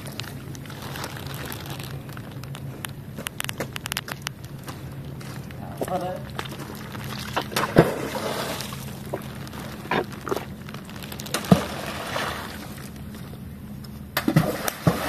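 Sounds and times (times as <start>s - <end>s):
low steady hum: 0.0s - 15.0s
water sloshing and splashing: 0.0s - 15.0s.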